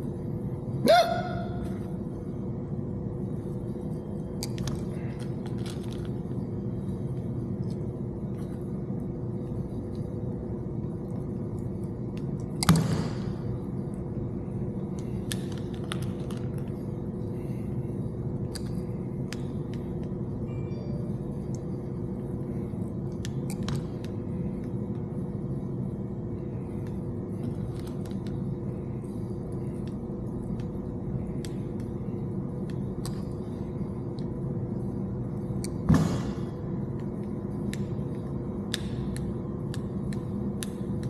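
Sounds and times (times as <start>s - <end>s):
mechanical hum: 0.0s - 41.0s.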